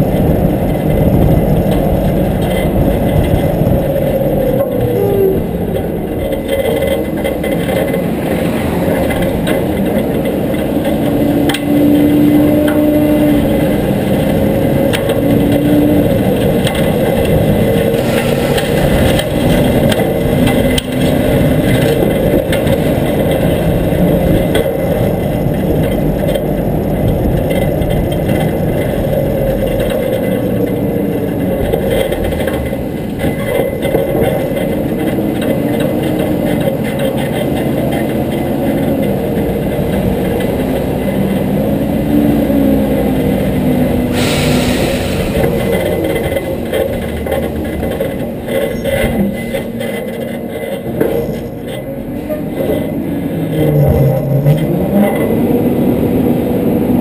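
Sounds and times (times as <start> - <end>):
garbage truck engine running: 0.0 - 57.0
tyre and road noise: 0.0 - 57.0.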